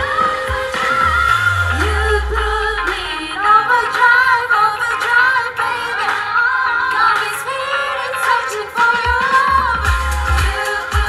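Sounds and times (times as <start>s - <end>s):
backing music: 0.0s - 11.0s
woman singing pop song: 0.0s - 11.0s.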